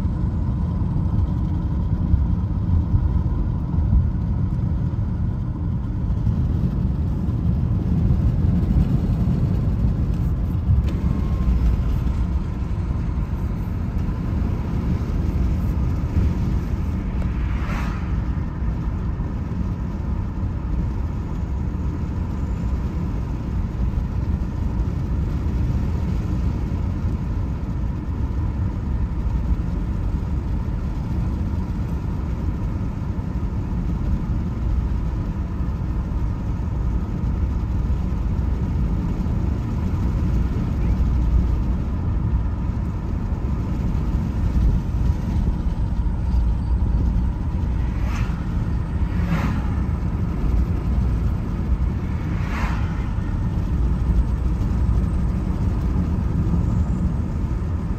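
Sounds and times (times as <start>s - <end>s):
car interior road rumble: 0.0s - 57.9s.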